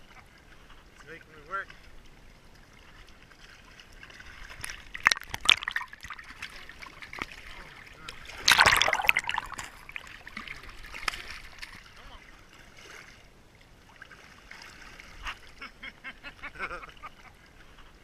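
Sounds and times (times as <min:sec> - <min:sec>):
water splashing: 0:00.0 - 0:18.0.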